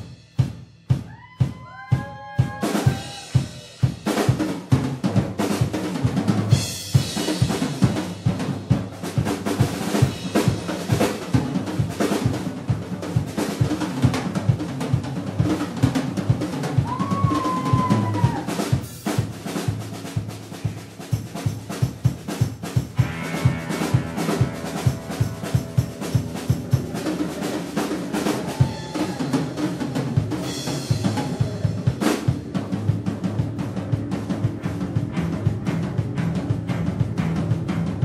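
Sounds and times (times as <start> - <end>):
drum kit solo: 0.0 - 38.0.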